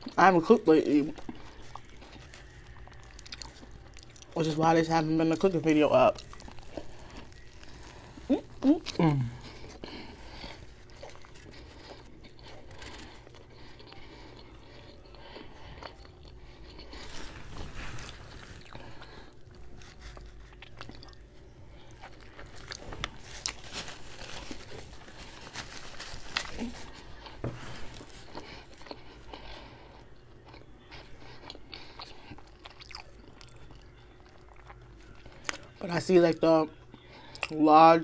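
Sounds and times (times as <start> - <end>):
chewing a sandwich: 0.0 - 37.8.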